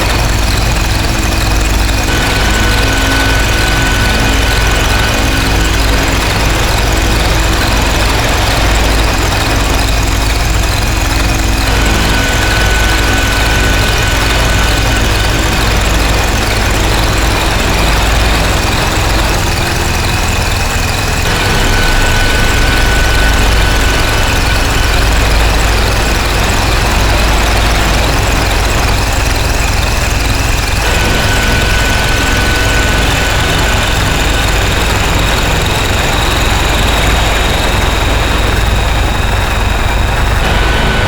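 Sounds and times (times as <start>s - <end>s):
distorted noise drone: 0.0s - 41.0s
heavy low rumble: 0.0s - 41.0s.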